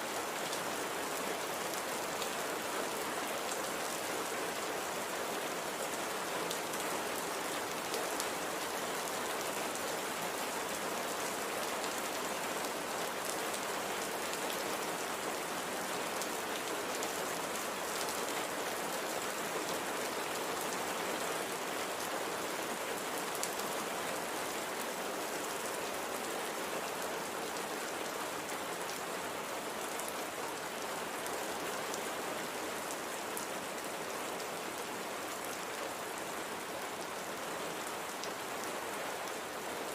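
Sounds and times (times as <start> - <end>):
light rain hiss: 0.0 - 39.9.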